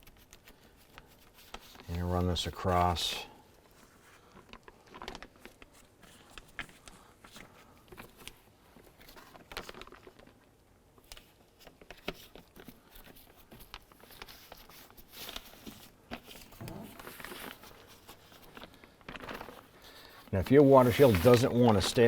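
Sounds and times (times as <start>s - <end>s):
plastic rustling and crinkling: 0.0s - 22.0s.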